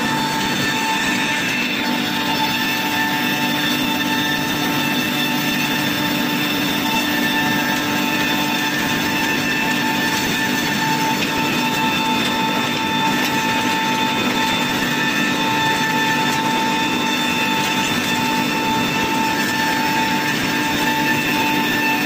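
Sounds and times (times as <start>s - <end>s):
milling machine whine: 0.0s - 22.0s.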